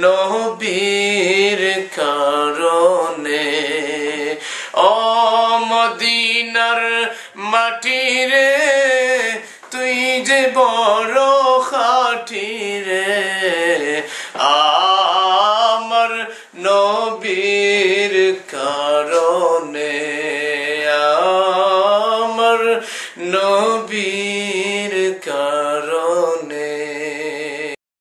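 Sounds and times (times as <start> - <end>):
man singing devotional song: 0.0 - 27.8.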